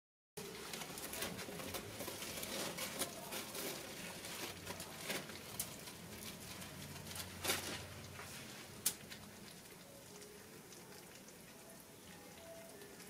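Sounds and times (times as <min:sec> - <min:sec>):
bread crust crackling: 0:00.4 - 0:13.0.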